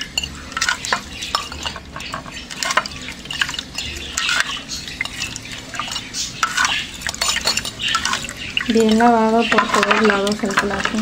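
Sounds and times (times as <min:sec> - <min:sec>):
water sloshing: 0:00.0 - 0:11.0.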